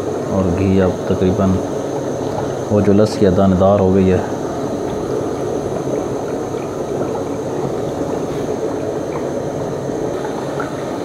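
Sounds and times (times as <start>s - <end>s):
ghee bubbling and crackling in pot: 0.0s - 11.0s.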